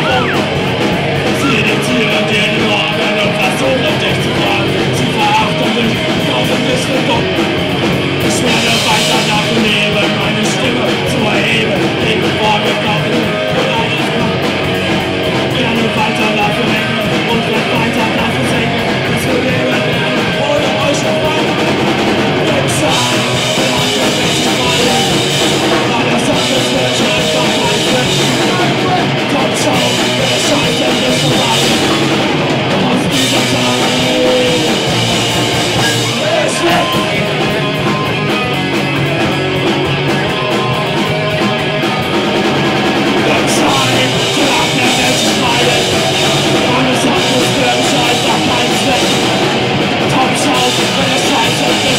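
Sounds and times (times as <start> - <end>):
bass guitar: 0.0 - 51.9
drum kit: 0.0 - 51.9
electric guitars: 0.0 - 51.9.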